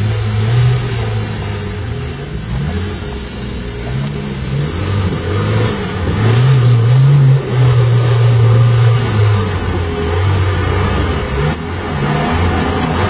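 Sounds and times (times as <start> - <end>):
off-road car engine revving: 0.0 - 13.0.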